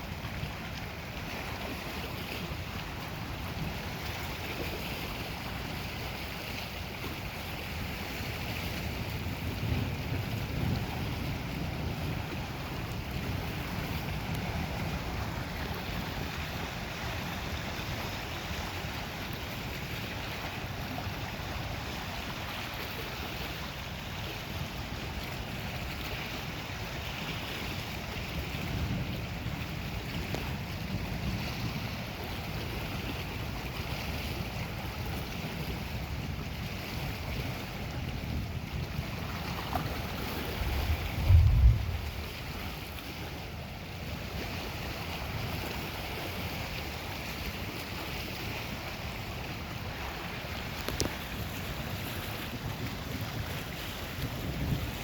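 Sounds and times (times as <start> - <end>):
lake waves washing: 0.0 - 55.0
wind gusting on microphone: 7.2 - 55.0.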